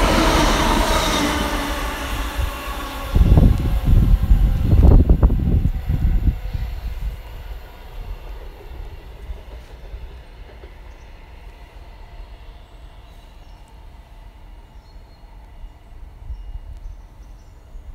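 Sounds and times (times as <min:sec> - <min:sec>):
train rumbling on rails: 0:00.0 - 0:17.9.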